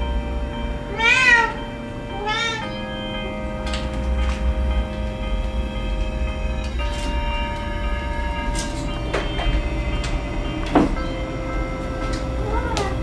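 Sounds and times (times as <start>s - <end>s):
droning chord music: 0.0s - 13.0s.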